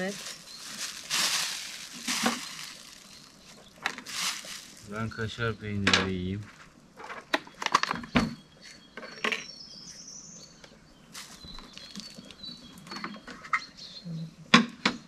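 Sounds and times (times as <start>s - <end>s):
birds chirping: 0.0s - 6.4s, 7.3s - 15.0s.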